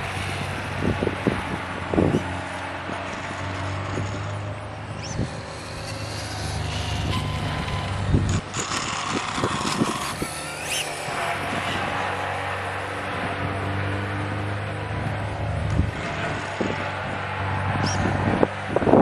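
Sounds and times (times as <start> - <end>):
electric motor whining: 0.0 - 18.5
wind buffeting microphone: 0.0 - 19.0.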